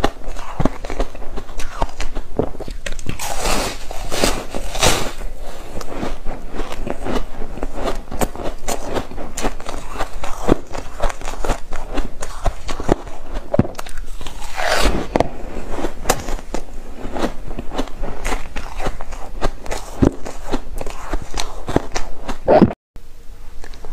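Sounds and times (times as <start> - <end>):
crunching and chewing ice: 0.0 - 22.6.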